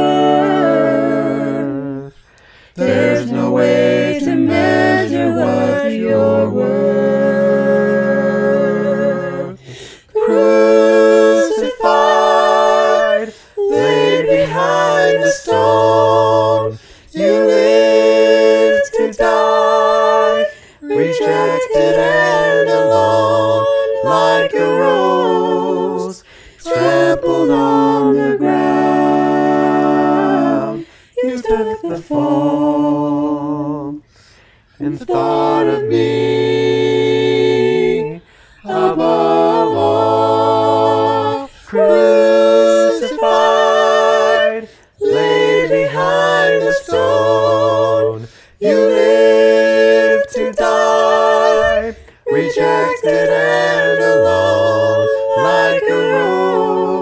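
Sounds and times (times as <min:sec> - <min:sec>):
voices singing a hymn a cappella: 0:00.0 - 0:57.0.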